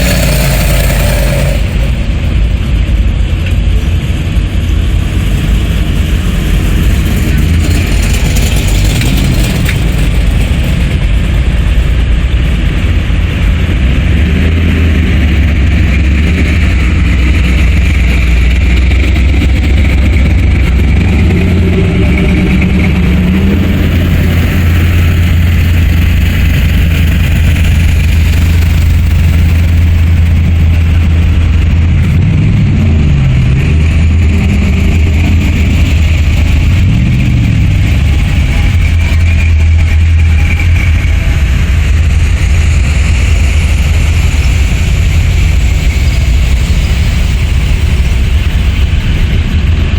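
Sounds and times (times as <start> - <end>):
car engines deep rumble: 0.0 - 49.9
cars revving lightly: 0.0 - 49.9.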